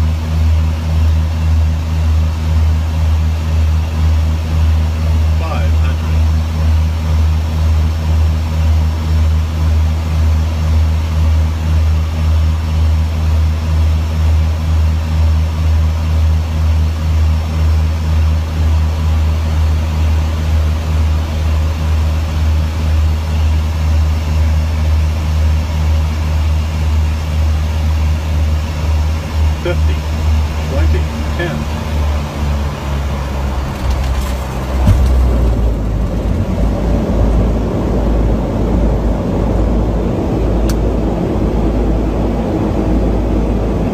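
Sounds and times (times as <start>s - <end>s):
aircraft engines droning: 0.0s - 43.9s.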